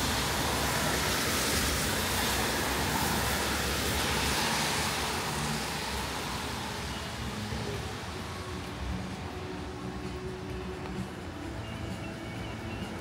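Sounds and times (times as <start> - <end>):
low engine rumble: 0.0 - 13.0
tyres hissing on wet pavement: 0.0 - 13.0.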